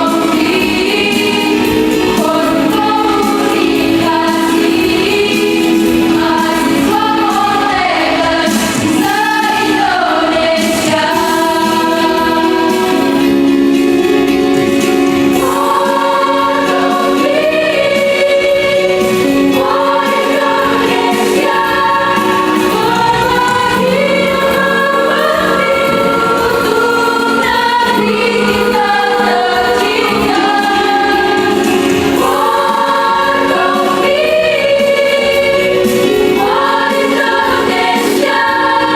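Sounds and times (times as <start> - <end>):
mixed choir singing a jingle: 0.0 - 38.9.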